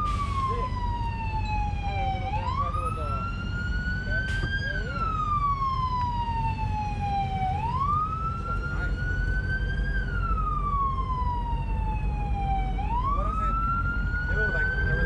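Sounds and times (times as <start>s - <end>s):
low rumble of traffic: 0.0s - 15.0s
police siren wailing: 0.0s - 15.0s.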